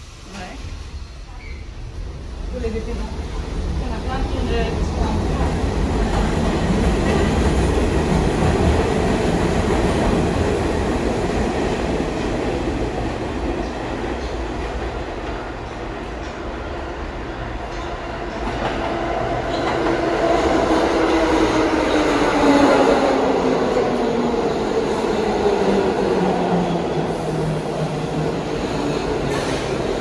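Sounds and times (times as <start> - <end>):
subway train rumbling and rattling: 0.0 - 30.0.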